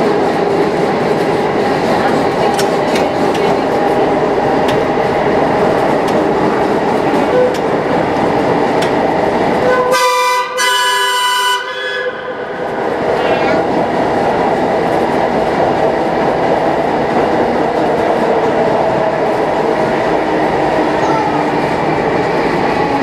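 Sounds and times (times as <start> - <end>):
trolley wheels rumbling on rails: 0.0 - 10.0, 12.3 - 23.0.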